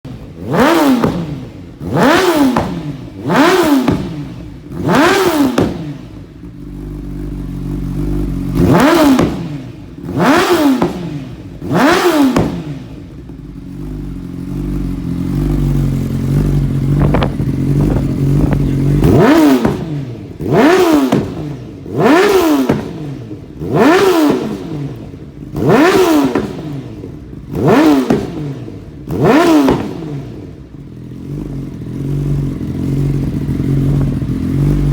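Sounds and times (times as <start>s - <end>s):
motorcycle engine revving: 0.0s - 34.9s
motorcycle engine idling: 0.1s - 34.9s.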